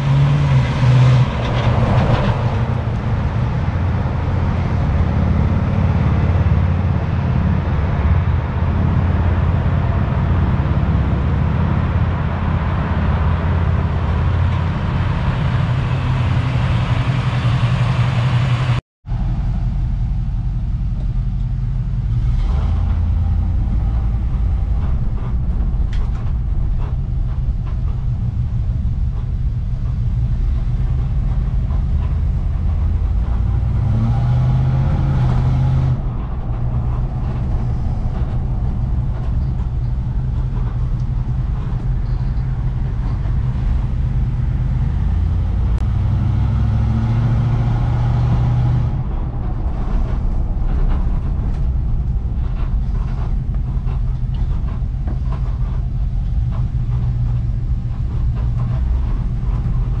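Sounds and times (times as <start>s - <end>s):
truck engine running: 0.0s - 60.0s.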